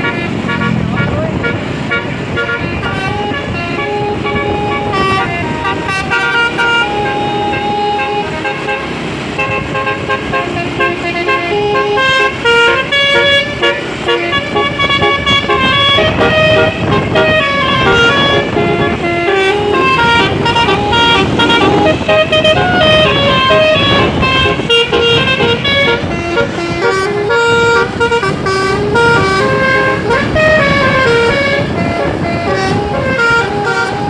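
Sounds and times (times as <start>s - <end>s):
musical bus horn melody: 0.0s - 34.0s.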